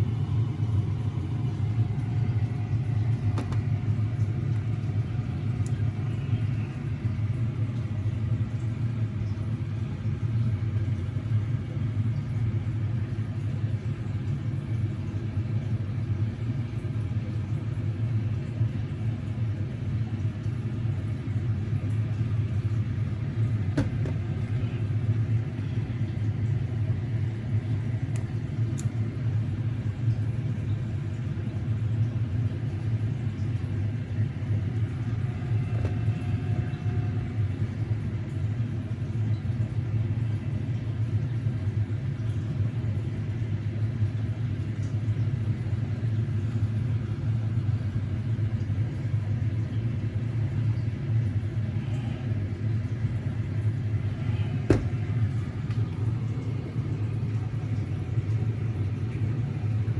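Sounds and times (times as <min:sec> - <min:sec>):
low rumbling hum: 0:00.0 - 0:59.9.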